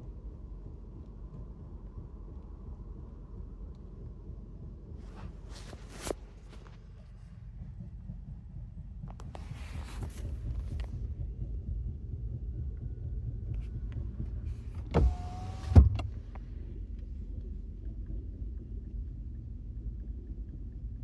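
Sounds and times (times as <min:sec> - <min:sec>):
low rumble inside car: 0:00.0 - 0:21.0.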